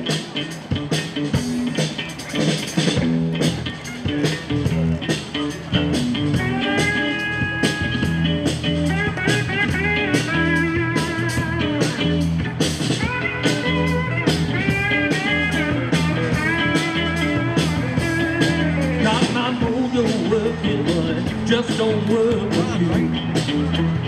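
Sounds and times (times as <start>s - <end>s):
lead guitar bent notes: 0.0s - 24.0s
live rock band playing: 0.0s - 24.0s.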